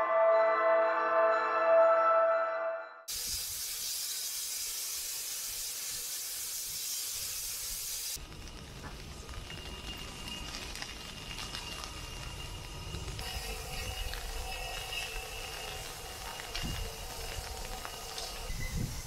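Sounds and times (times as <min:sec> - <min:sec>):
steam locomotive hissing: 0:03.1 - 0:19.0.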